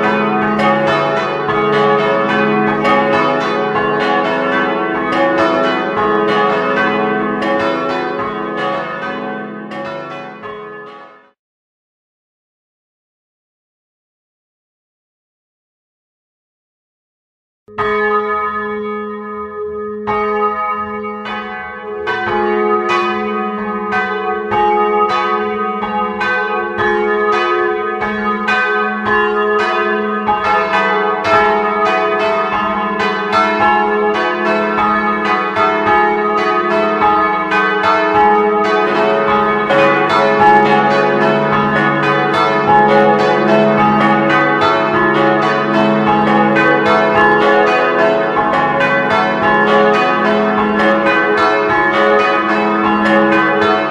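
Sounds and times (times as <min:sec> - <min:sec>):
church bells pealing: 0:00.0 - 0:11.4, 0:17.7 - 0:53.9.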